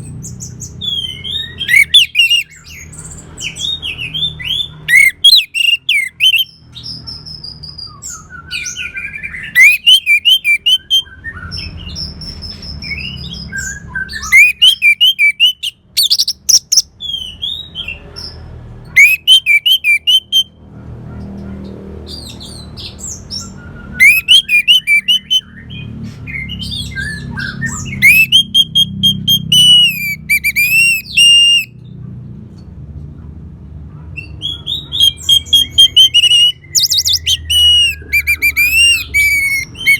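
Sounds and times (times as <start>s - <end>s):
thrush singing whistled notes: 0.0s - 6.6s, 7.4s - 12.1s, 12.8s - 17.6s, 19.0s - 20.6s, 23.0s - 31.8s, 34.4s - 39.9s.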